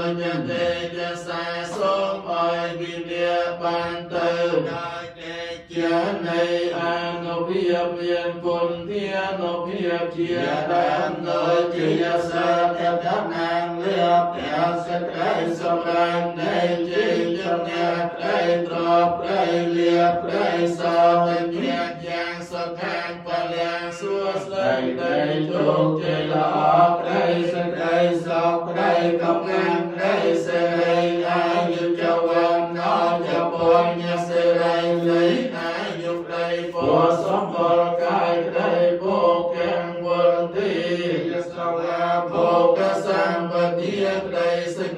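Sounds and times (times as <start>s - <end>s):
monks chanting in low drone: 0.0s - 44.9s.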